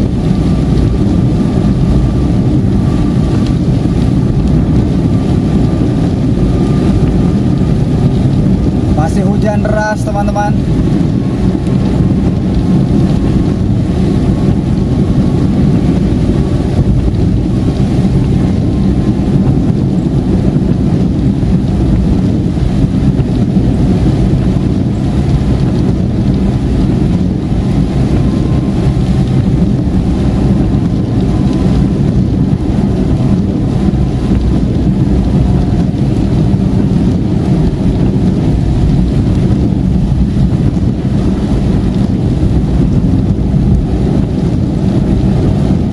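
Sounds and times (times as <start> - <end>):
rain on a car: 0.0 - 45.9
tyres rumbling on wet road: 0.0 - 45.9.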